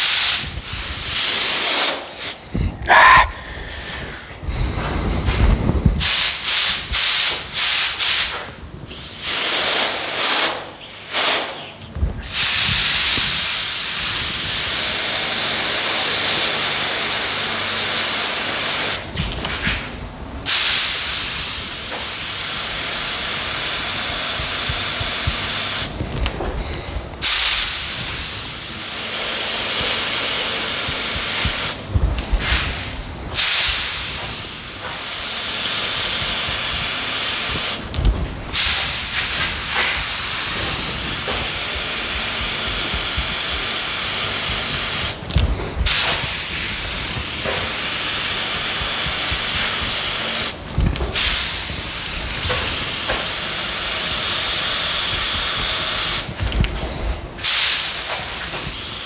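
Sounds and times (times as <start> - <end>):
compressed-air spray gun hissing: 0.0 - 59.0.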